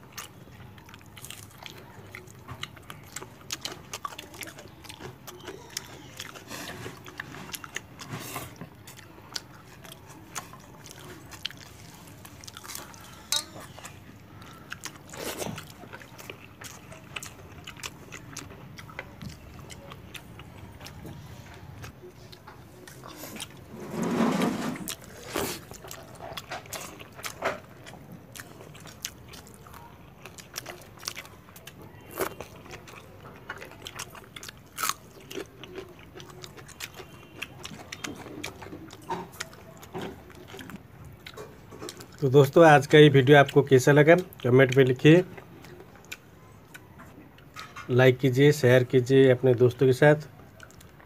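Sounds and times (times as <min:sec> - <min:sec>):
chewing and biting food: 0:00.0 - 0:24.2, 0:24.8 - 0:47.9, 0:50.2 - 0:51.0.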